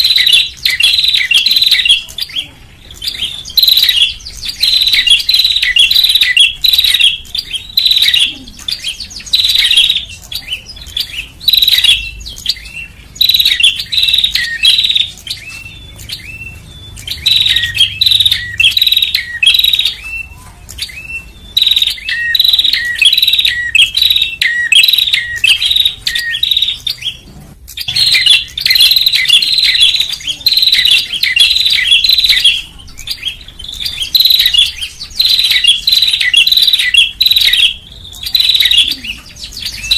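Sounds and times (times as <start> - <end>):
bird high chirps: 0.0 - 39.9.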